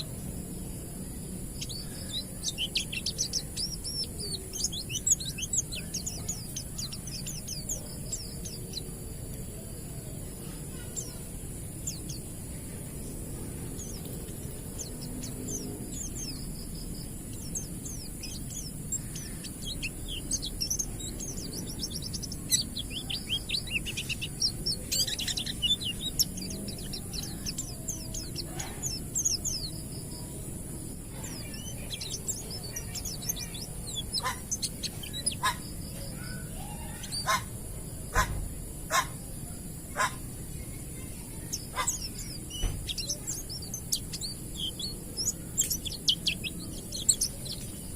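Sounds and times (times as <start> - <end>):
birds chirping twitters: 0.0 - 47.9
steady high hiss: 0.0 - 47.9.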